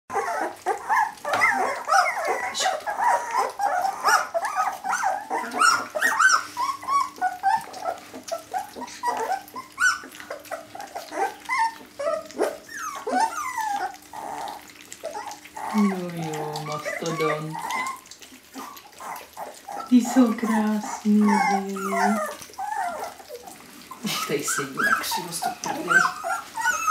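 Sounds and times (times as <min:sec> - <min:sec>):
puppies yelping and whining: 0:00.1 - 0:26.9.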